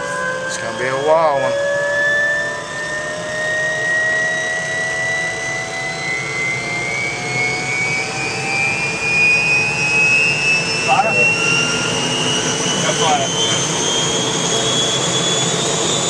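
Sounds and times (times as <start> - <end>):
helicopter turbine engine spooling up: 0.0 - 16.0.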